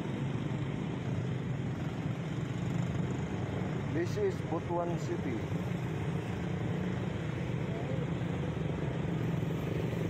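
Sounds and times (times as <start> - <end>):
vehicles passing: 0.0 - 10.0.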